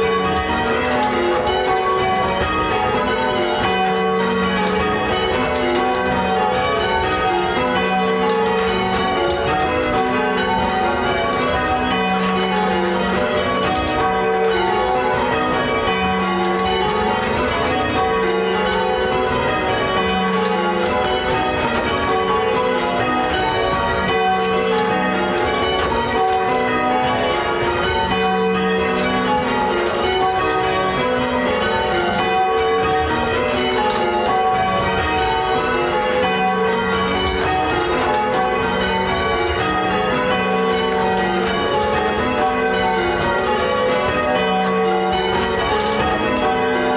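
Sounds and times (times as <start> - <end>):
church bells rung in changes: 0.0 - 46.9.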